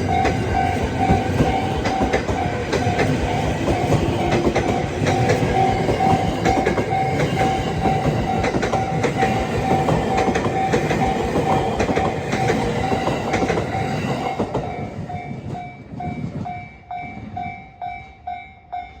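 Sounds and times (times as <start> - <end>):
train wheels clicking over rail joints: 0.0 - 18.4.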